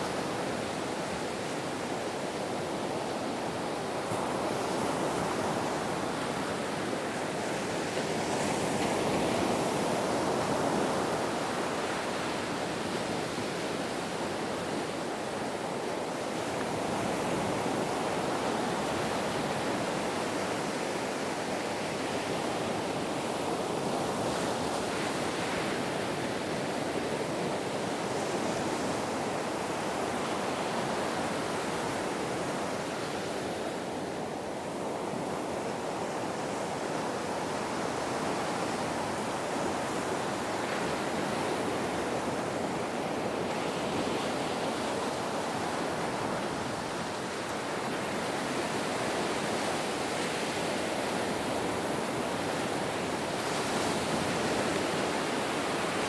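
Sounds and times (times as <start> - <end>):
ocean surf washing: 0.0 - 56.0.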